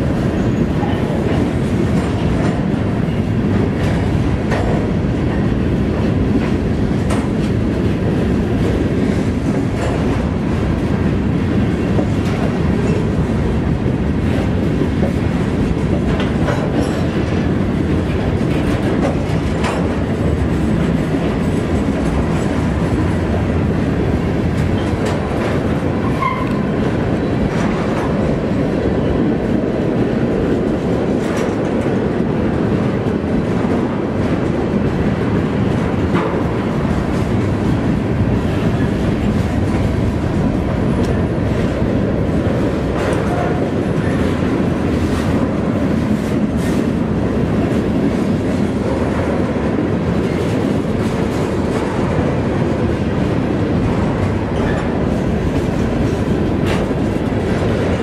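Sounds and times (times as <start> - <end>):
freight cars clicking and clanking: 0.0 - 58.0
train wheels rumbling on rail: 0.0 - 58.0.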